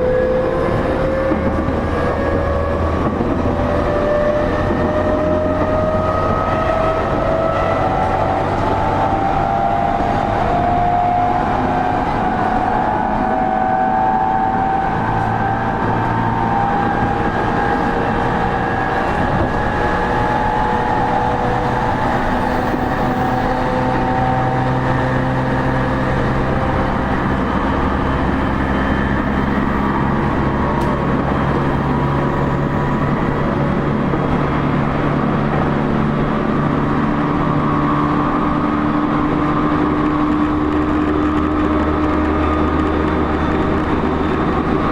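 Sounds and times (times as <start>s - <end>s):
traction motor whine: 0.0s - 44.9s
wheel and rail rumble: 0.0s - 44.9s.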